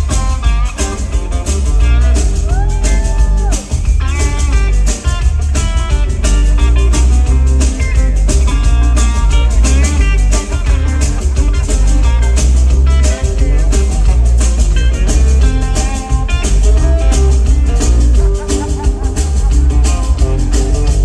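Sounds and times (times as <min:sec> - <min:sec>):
driving drum kit: 0:00.0 - 0:21.0
electric guitar lead line: 0:00.0 - 0:21.0
heavy bass line: 0:00.0 - 0:21.0.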